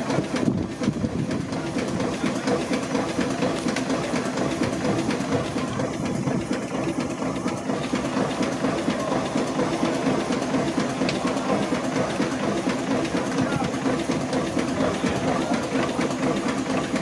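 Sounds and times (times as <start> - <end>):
steam engine mechanical clatter: 0.0 - 17.0.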